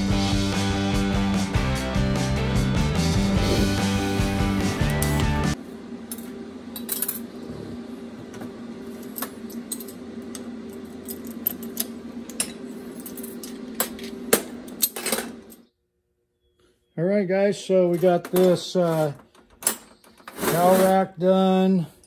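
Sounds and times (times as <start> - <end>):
steady hum: 3.0 - 22.0.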